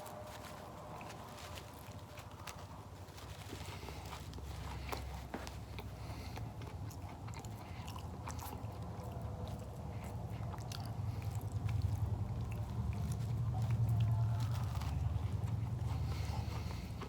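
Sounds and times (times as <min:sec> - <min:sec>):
low steady hum: 0:00.0 - 0:17.0
person chewing crunchy pastry: 0:00.0 - 0:17.0.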